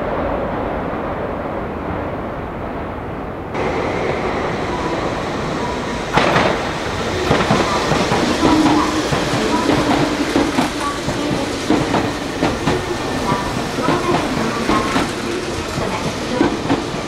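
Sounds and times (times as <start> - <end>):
train wheels rumbling on rail: 2.6 - 17.0.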